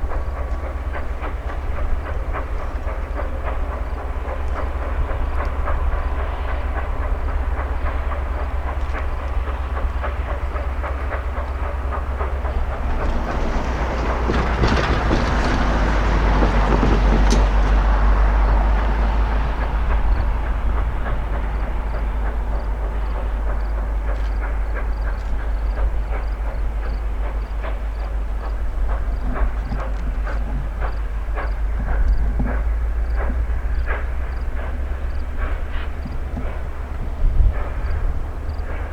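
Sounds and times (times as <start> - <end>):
steam train low rumble: 0.0 - 38.9
train wheels clicking over rail joints: 0.0 - 38.9.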